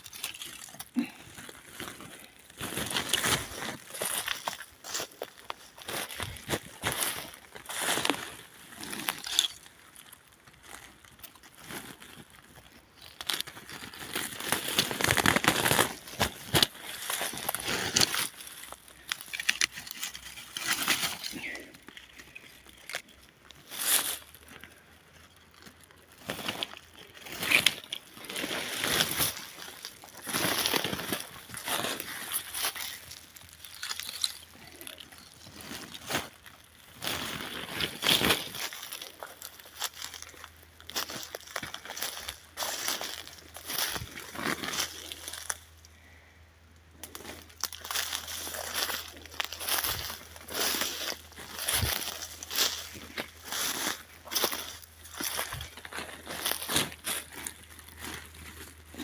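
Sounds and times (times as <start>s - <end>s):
pine needles crunching and rustling: 0.0s - 59.0s.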